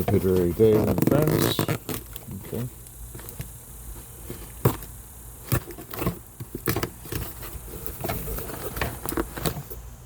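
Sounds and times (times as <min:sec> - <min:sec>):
cardboard scraping and rustling: 0:00.0 - 0:09.9.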